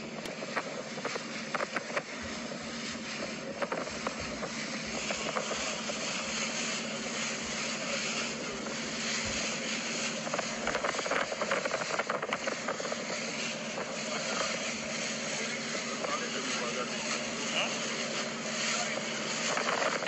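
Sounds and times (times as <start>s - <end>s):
motorboat engine humming: 0.0s - 20.0s
rushing noise: 0.0s - 20.0s.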